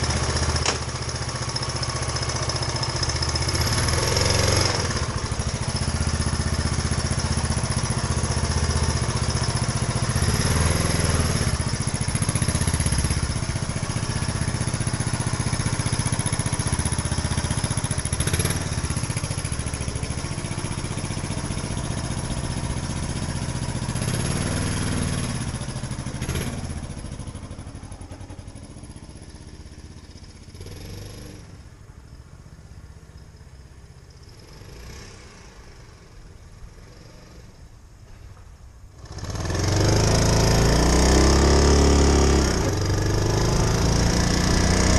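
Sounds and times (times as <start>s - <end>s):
motorcycle engine running: 0.0s - 38.3s, 38.9s - 44.9s.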